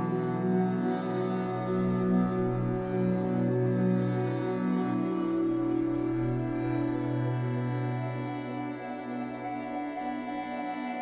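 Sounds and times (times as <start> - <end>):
droning background music: 0.0 - 11.0.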